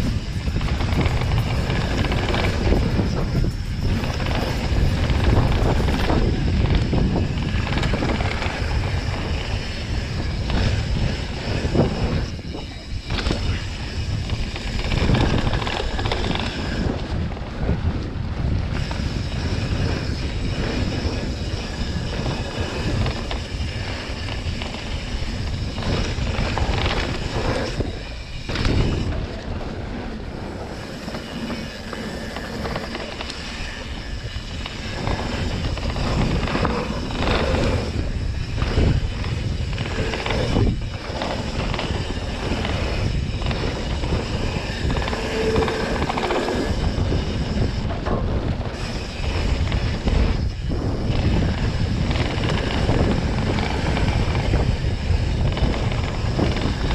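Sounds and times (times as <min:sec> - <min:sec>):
bike rattling over bumps: 0:00.0 - 0:56.9
wind rushing over microphone: 0:00.0 - 0:56.9.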